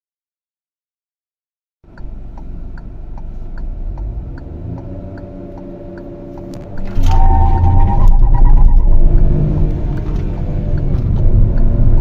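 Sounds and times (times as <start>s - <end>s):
car engine revving: 1.9s - 12.0s.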